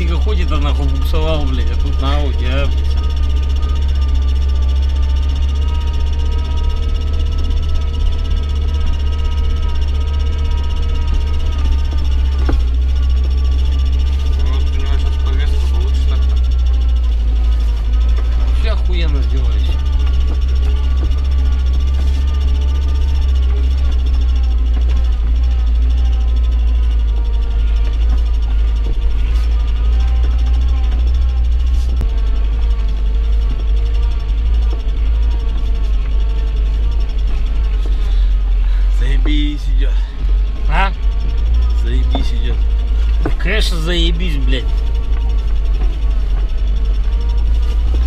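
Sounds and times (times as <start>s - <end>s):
car engine and tyres drone: 0.0s - 48.0s.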